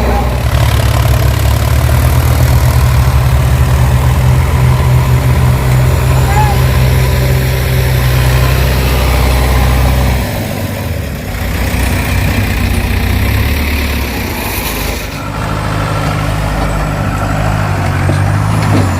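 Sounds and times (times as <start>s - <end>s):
heavy diesel engine running: 0.0s - 18.9s.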